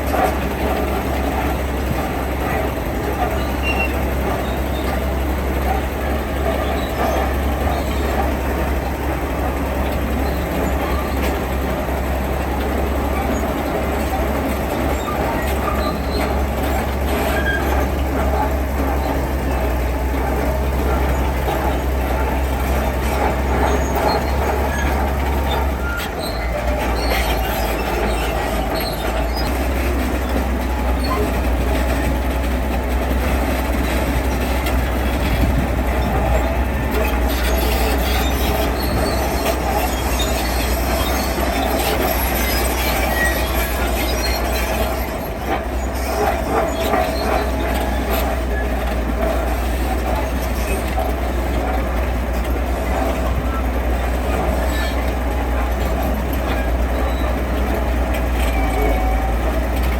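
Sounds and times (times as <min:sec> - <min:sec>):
heavy machinery engine drone: 0:00.0 - 0:59.9
metallic squealing and clatter: 0:00.0 - 0:59.9.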